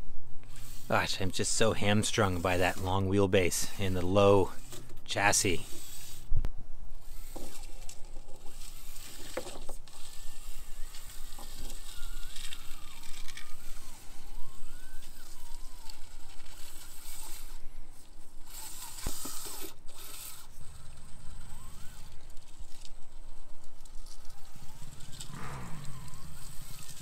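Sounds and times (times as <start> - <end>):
outdoor noise: 0.0 - 27.0
toy car motor whine: 0.4 - 6.3, 7.0 - 27.0.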